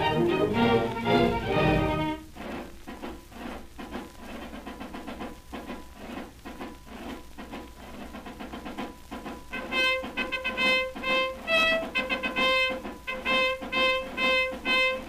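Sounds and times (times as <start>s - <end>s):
orchestral side drums: 0.0s - 15.0s
record surface hiss: 0.0s - 15.0s.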